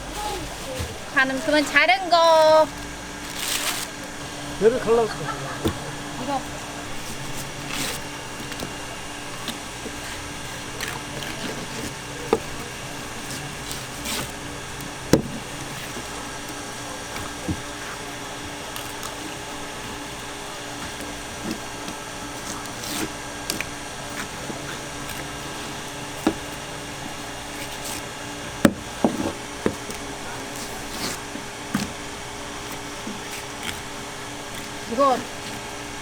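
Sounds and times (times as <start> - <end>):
mechanical hum: 0.0 - 36.0
knife cutting fish: 4.9 - 36.0.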